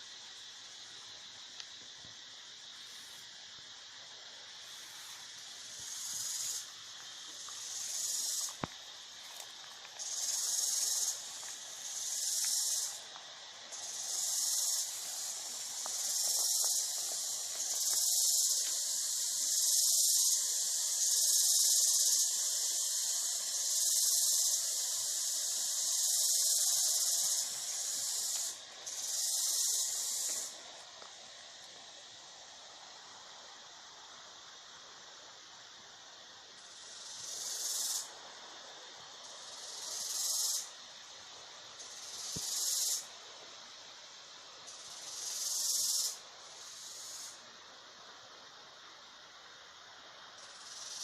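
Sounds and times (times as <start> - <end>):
high-pitched hiss pulses: 0.0 - 51.0.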